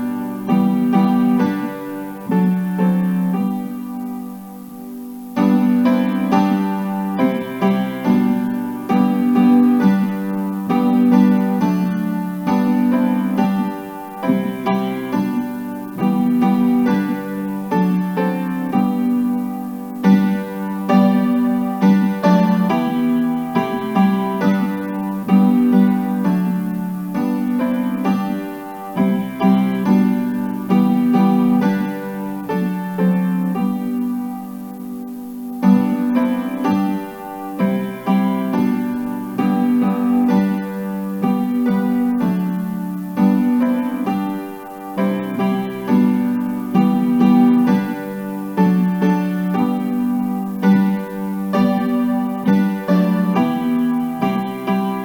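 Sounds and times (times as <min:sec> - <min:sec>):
piano playing a slow hymn: 0:00.0 - 0:55.0.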